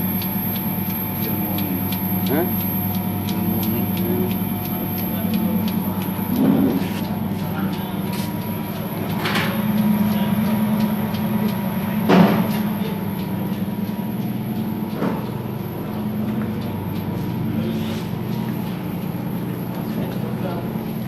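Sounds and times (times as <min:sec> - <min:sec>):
laundry machine humming: 0:00.0 - 0:21.0.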